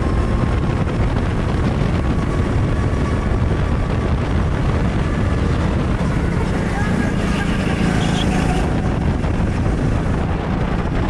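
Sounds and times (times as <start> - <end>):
go-kart engine at high revs: 0.0 - 11.0
wind over microphone: 0.0 - 11.0.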